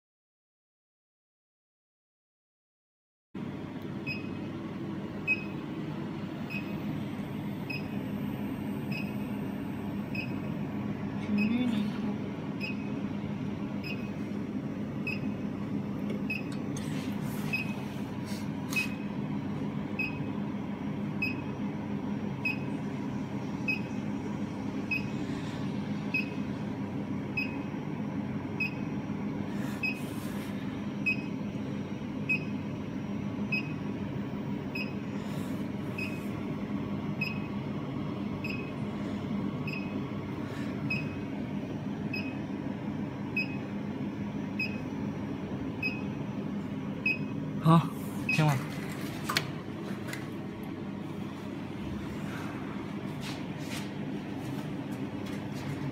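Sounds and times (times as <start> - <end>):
machine humming: 3.4 - 55.9.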